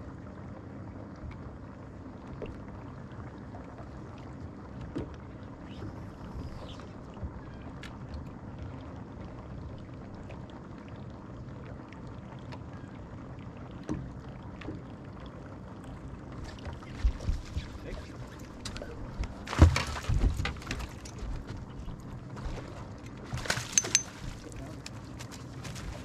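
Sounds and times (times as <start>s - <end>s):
water lapping against boat hull: 0.5s - 26.0s.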